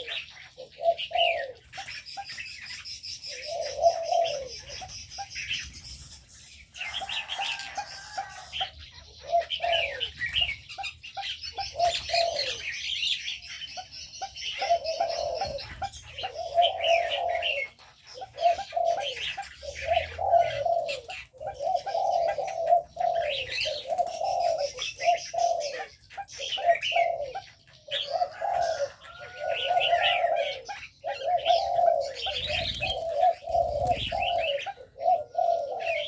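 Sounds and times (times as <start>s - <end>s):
doves cooing: 0.0s - 36.0s
small birds chirping: 0.0s - 36.0s.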